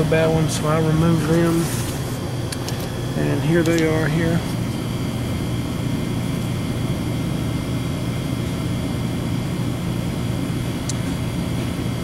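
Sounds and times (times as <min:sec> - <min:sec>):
hvac equipment humming: 0:00.0 - 0:12.0.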